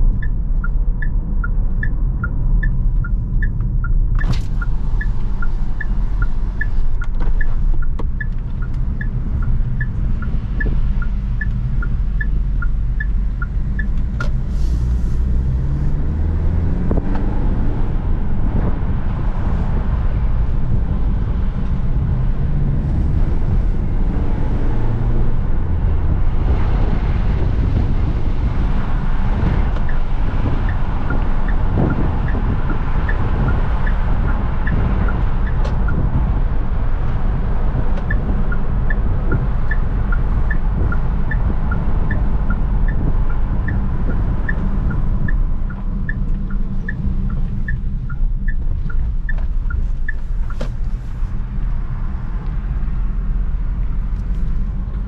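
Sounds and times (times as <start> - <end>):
car engine accelerating: 0.0 - 55.0
road noise: 0.0 - 55.0
turn signal ticking: 0.0 - 55.0.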